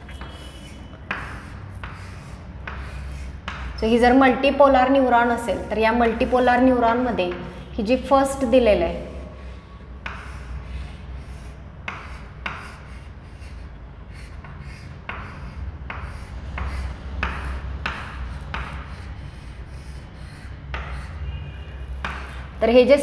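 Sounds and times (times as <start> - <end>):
chalk scratching on chalkboard: 0.0 - 7.7, 8.4 - 22.6.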